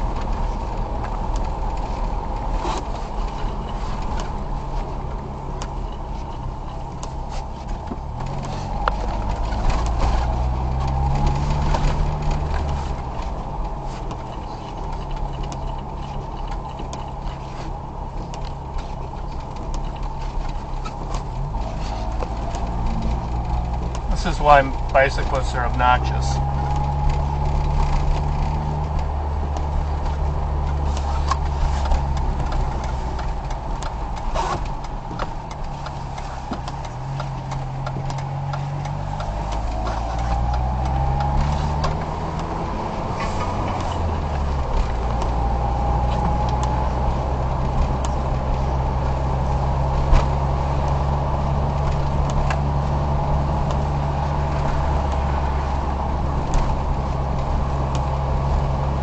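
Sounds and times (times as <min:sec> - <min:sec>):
car engine: 0:00.0 - 0:59.0
road noise: 0:00.0 - 0:59.0.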